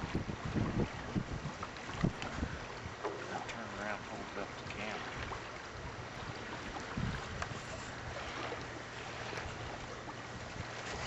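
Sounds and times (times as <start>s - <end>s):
wind rumble on microphone: 0.0s - 3.8s, 4.6s - 11.0s
water lapping at boat: 0.0s - 11.0s.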